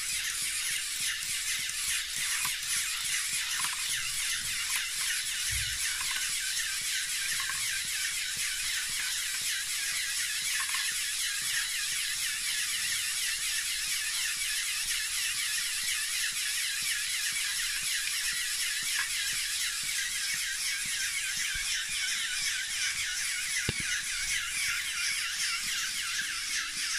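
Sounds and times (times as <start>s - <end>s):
pump motors whirring: 0.0s - 26.9s.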